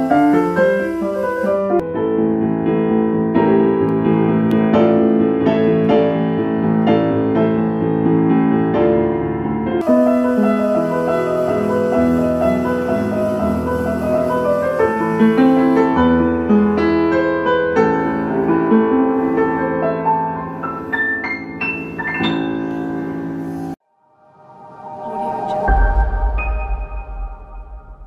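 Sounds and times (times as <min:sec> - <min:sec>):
digital piano playing: 0:00.0 - 0:23.8.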